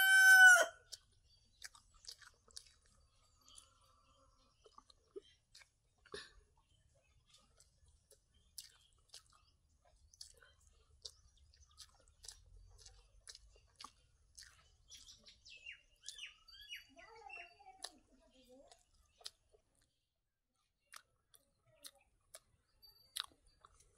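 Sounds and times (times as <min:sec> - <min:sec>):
person chewing food wetly: 0:00.0 - 0:16.8, 0:17.7 - 0:20.0, 0:20.8 - 0:23.9
birds chirping: 0:00.0 - 0:20.0.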